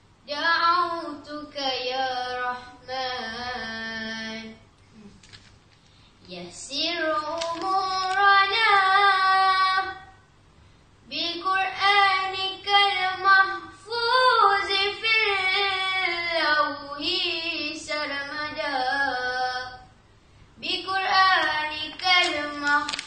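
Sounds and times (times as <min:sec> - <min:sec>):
girl singing unaccompanied: 0:00.2 - 0:05.2, 0:06.3 - 0:10.3, 0:11.0 - 0:23.0.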